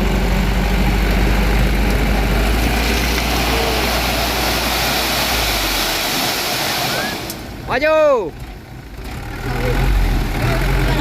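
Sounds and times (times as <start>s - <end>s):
dump truck engine under load: 0.0s - 11.0s.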